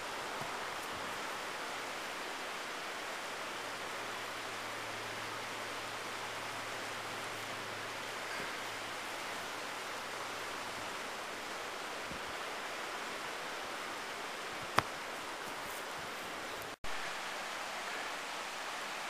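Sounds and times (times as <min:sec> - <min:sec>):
fast river rushing: 0:00.0 - 0:19.0.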